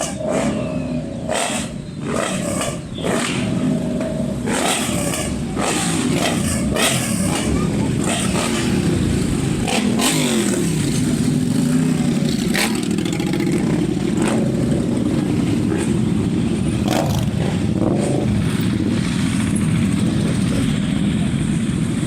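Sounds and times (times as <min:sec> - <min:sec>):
motorcycle engines running: 0:00.0 - 0:22.0.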